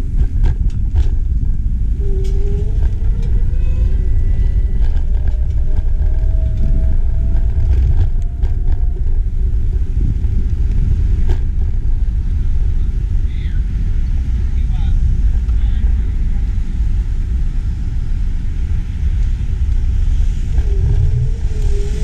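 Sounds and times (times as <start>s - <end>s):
wind buffeting microphone: 0.0s - 22.0s
faint rising whine: 1.2s - 22.0s.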